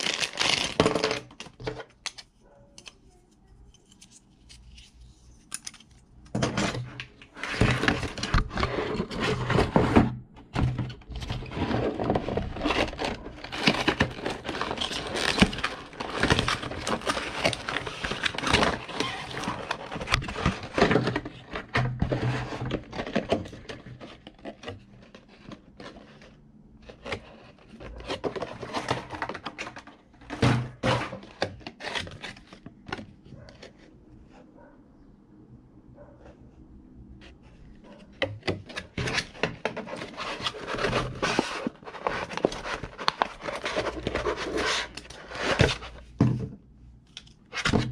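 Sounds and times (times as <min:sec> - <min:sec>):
packaging crinkling and scraping: 0:00.0 - 0:02.8, 0:03.8 - 0:10.2, 0:10.8 - 0:34.0, 0:37.4 - 0:46.2, 0:47.2 - 0:47.9.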